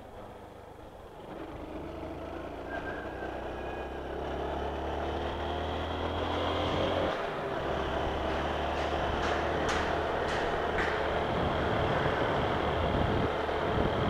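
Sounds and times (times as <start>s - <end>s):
motorcycle engine accelerating: 0.8s - 14.0s.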